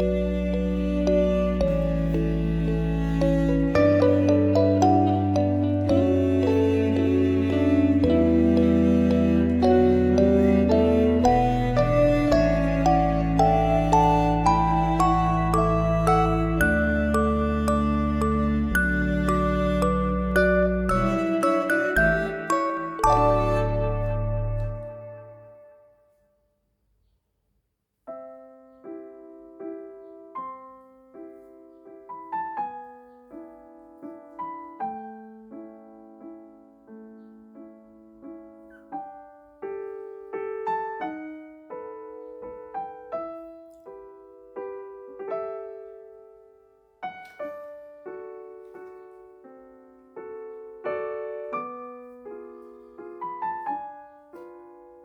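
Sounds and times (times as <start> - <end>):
slow piano melody: 0.0 - 26.2, 28.1 - 55.0.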